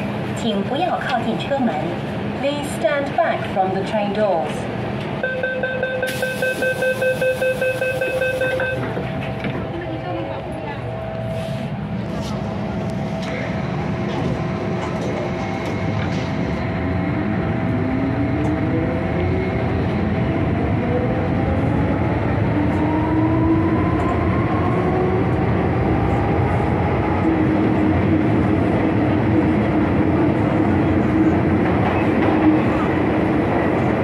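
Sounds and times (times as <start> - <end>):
train running rumble: 6.3 - 34.0.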